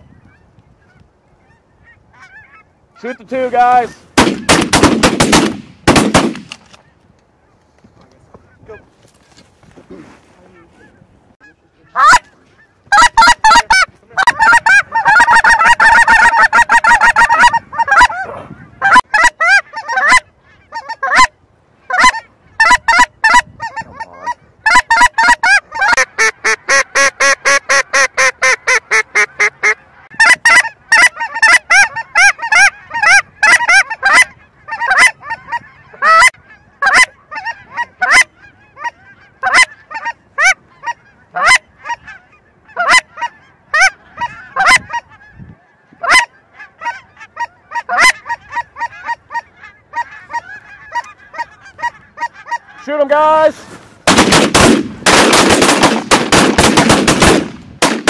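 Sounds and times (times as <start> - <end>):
geese honking: 0.0 - 9.1, 10.3 - 57.4.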